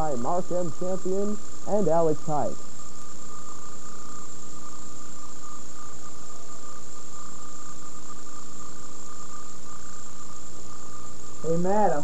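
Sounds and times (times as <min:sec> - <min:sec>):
constant high and low tones: 0:00.0 - 0:12.0
steady hum and hiss: 0:00.0 - 0:12.0.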